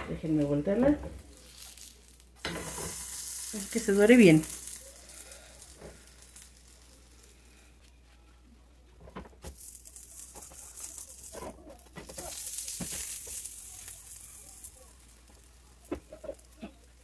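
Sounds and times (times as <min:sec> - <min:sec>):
meat sizzling in a frying pan: 0:01.2 - 0:07.6, 0:09.4 - 0:17.0.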